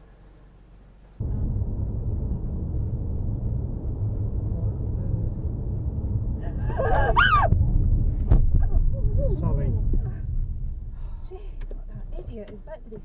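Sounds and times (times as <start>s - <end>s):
moving car road and engine rumble: 0.0s - 13.0s.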